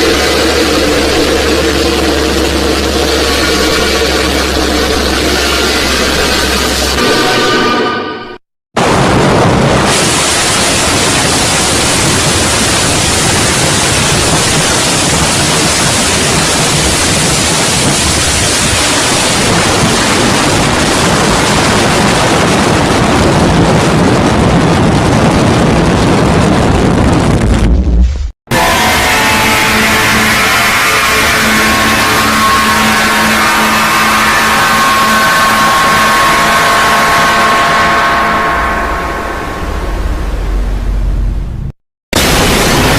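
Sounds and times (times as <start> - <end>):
deep low rumble: 0.0 - 7.3, 8.8 - 42.9
loud rushing static noise: 0.0 - 7.9, 8.8 - 42.9.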